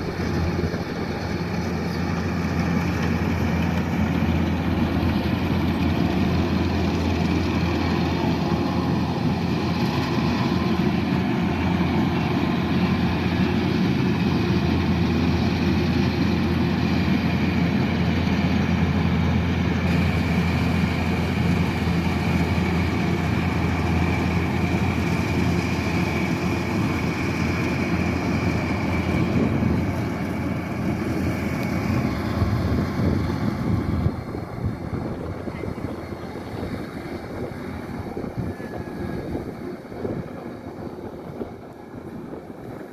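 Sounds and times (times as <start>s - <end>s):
combine harvester diesel drone: 0.0s - 42.9s.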